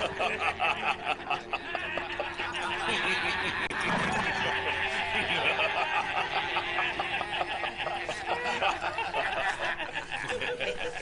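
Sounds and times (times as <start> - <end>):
man laughing loudly: 0.0 - 11.0
men laughing mockingly: 0.0 - 11.0.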